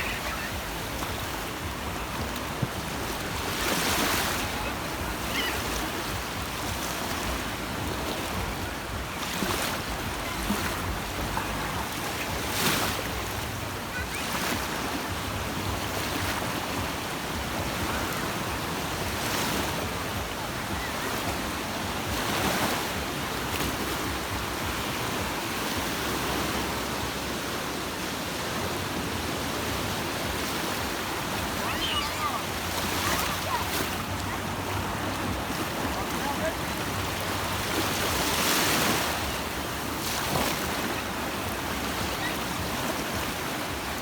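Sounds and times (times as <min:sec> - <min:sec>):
waves breaking on beach: 0:00.0 - 0:44.0.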